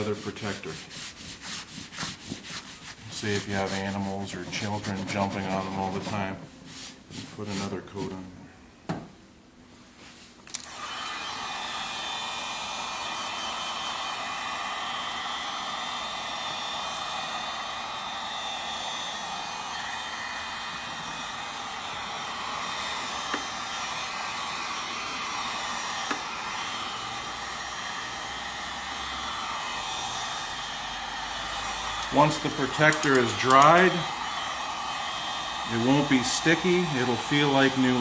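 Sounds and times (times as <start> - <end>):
heat gun blowing hot air: 0.0 - 7.8, 10.5 - 38.0.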